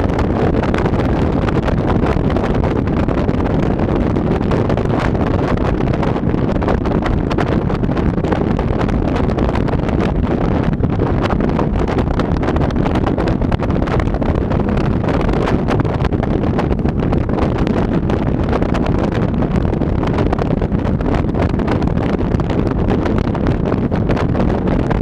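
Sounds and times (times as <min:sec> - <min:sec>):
low road rumble: 0:00.0 - 0:25.0
wind buffeting microphone: 0:00.0 - 0:25.0.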